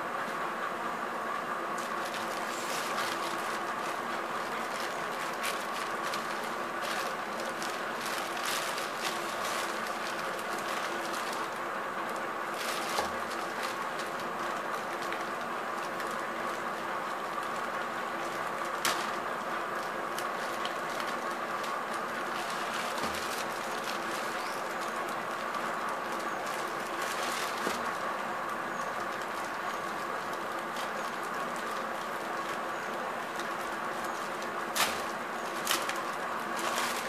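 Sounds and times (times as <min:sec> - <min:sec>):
humming background drone: 0:00.0 - 0:37.0
plastic bag crinkling: 0:01.8 - 0:37.0.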